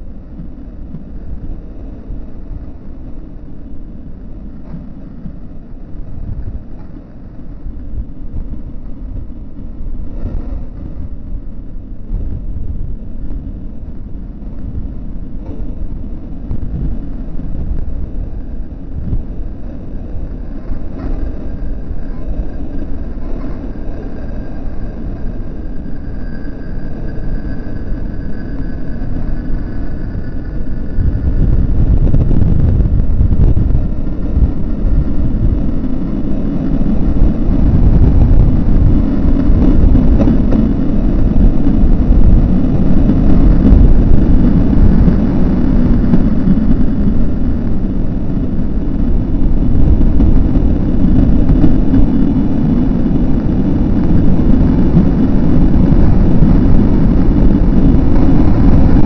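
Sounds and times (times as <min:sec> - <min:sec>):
road traffic deep rumble: 0:00.0 - 0:59.0.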